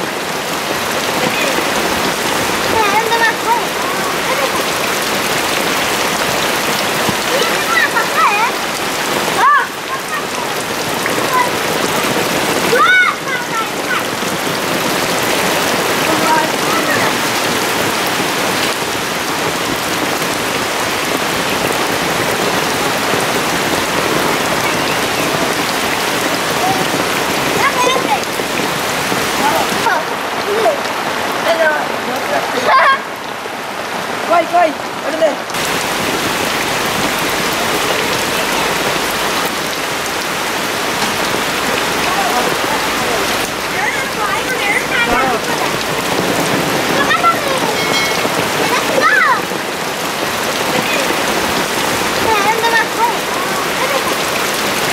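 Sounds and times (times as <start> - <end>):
heavy rain on wet pavement: 0.0 - 54.9.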